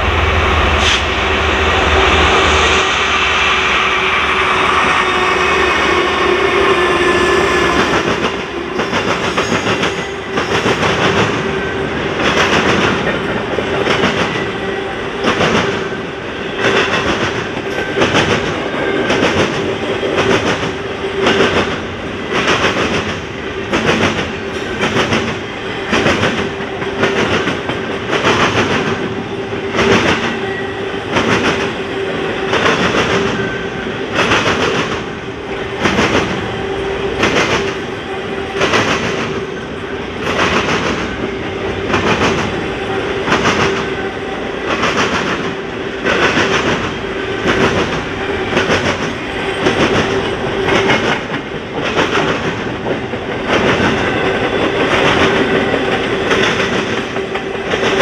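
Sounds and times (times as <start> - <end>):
steady train hum: 0.0 - 58.0
train wheels clacking on track: 0.0 - 58.0.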